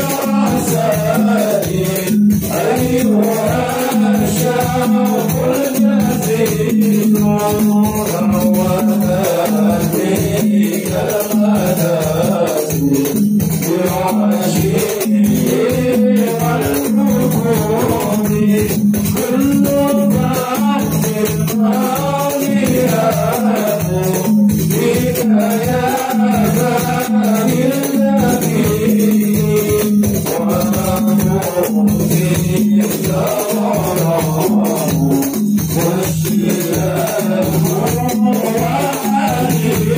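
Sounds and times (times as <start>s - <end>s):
hand percussion beat: 0.0s - 39.9s
men singing into microphones: 0.0s - 39.9s.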